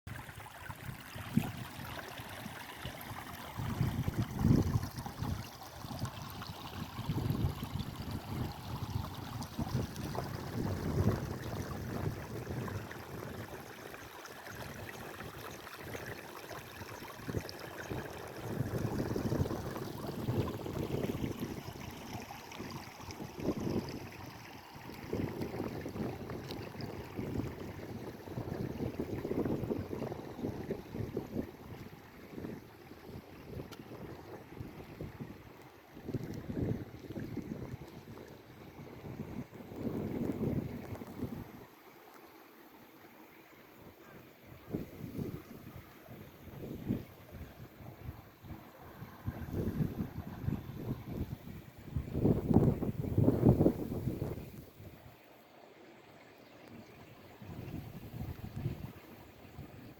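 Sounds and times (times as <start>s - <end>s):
running water rushing: 0.1s - 59.9s
wind buffeting microphone: 3.4s - 13.7s, 16.7s - 41.6s, 44.6s - 55.0s, 57.4s - 59.9s.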